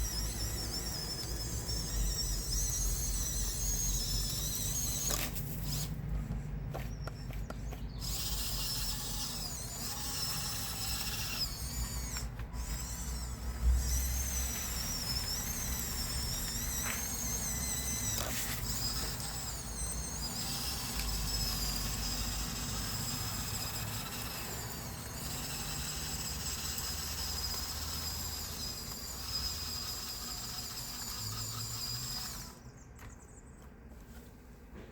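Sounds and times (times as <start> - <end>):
electric motors whining: 0.0 - 33.2.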